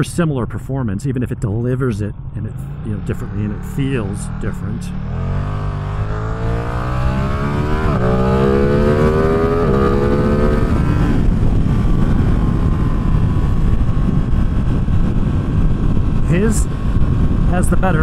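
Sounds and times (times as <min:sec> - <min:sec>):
wind noise: 0:00.0 - 0:18.0
motorcycle engine accelerating: 0:01.6 - 0:18.0.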